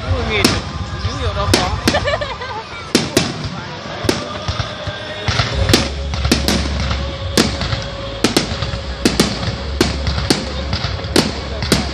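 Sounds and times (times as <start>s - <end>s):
fireworks bangs: 0.0s - 11.9s.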